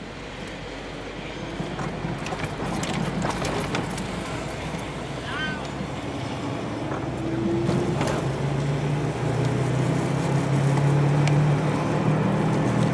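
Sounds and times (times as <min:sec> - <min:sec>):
car engine and road noise: 0:00.0 - 0:12.9.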